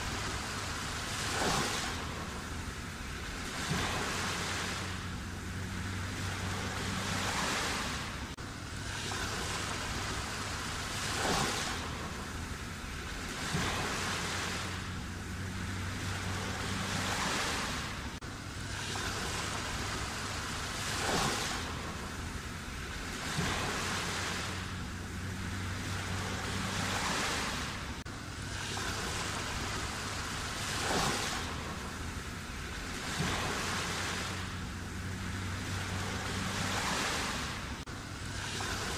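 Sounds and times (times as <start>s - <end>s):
surf hiss: 0.0s - 38.9s
waves breaking: 0.0s - 38.9s.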